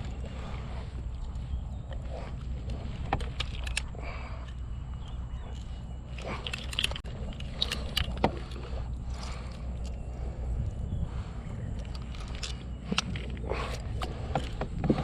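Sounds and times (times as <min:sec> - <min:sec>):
steady low rumble: 0:00.0 - 0:15.0
clicks and knocks of gear: 0:01.0 - 0:10.8, 0:11.6 - 0:15.0.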